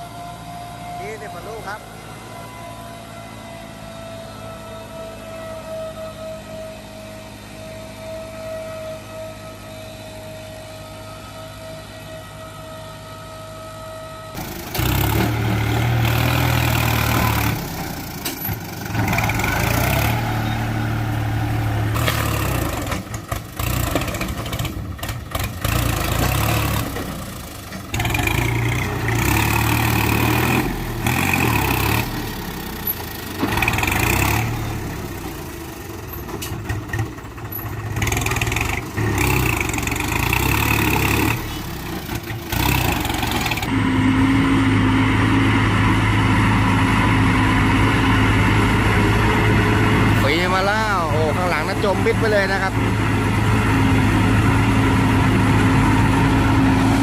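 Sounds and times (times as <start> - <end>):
tractor engines running: 0.0 - 57.0.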